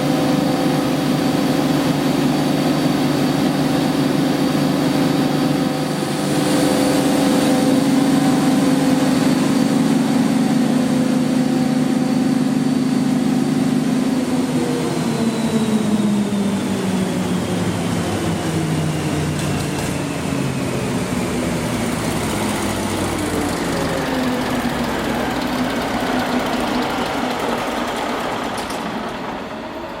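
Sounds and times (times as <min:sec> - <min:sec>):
diesel generator engine running: 0:00.0 - 0:30.0.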